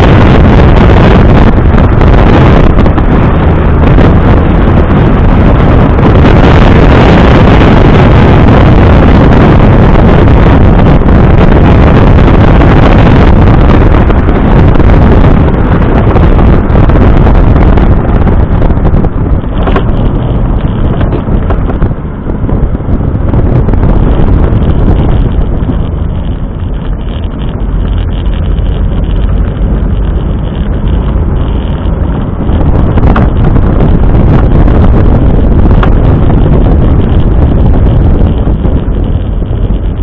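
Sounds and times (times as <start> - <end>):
road and engine noise: 0.0 - 40.0
wind buffeting microphone: 0.0 - 40.0.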